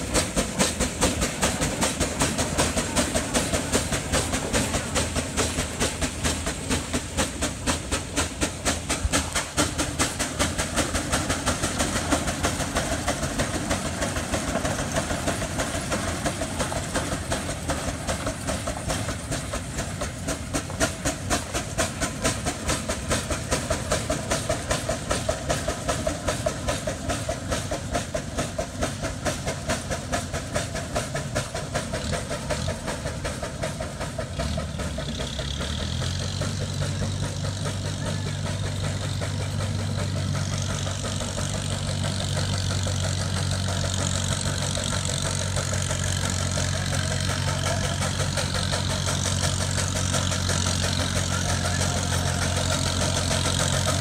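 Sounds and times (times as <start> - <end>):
steam engine exhaust beating: 0.0 - 54.0.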